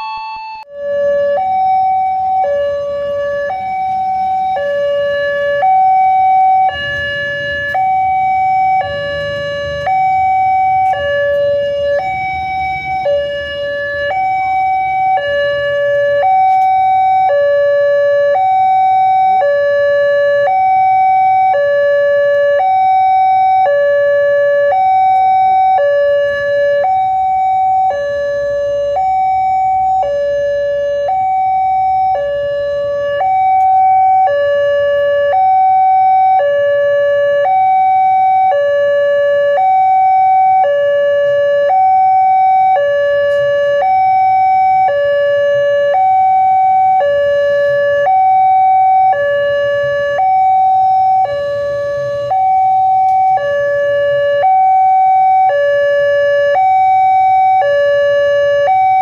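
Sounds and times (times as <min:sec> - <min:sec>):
two-tone crossing alarm: 0:00.0 - 0:59.0.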